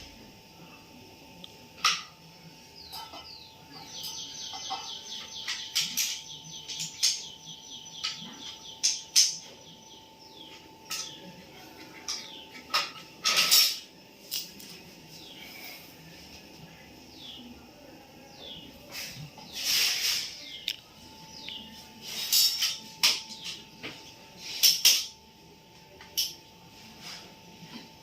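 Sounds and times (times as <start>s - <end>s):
small birds chirping and twittering: 0.5s - 28.0s.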